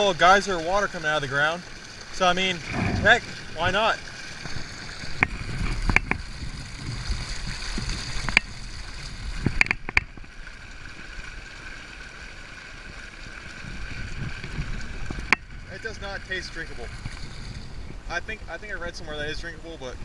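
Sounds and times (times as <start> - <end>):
water gurgling from a spring: 0.0 - 20.0.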